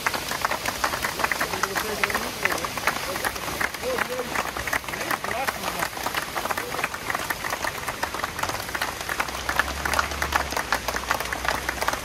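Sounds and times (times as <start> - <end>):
crowd clapping: 0.0 - 12.0.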